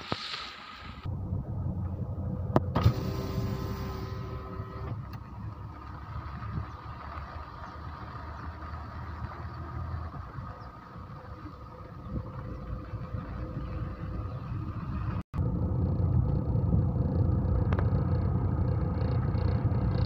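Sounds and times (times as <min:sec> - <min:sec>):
vehicle rolling on gravel: 0:02.9 - 0:20.0.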